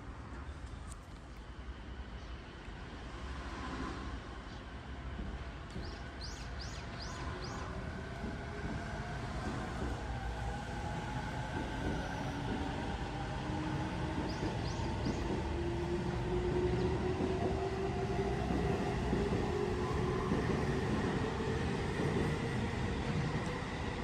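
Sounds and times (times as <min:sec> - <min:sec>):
train rumble: 0:02.9 - 0:24.0.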